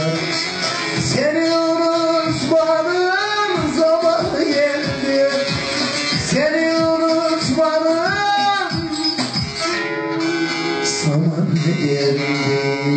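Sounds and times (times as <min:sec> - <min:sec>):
man singing long sliding notes: 0:00.0 - 0:12.9.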